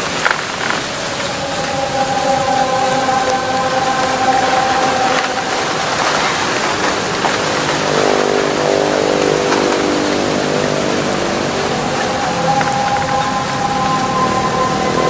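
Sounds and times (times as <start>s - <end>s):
loud even hiss: 0.0s - 15.0s
faint drawn-out tone: 1.1s - 15.0s.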